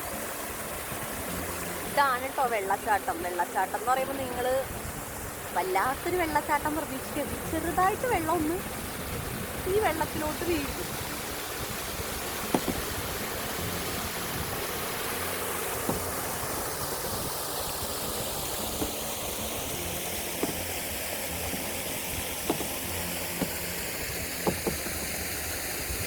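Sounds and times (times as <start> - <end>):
small waterfall rushing splash: 0.0 - 26.0.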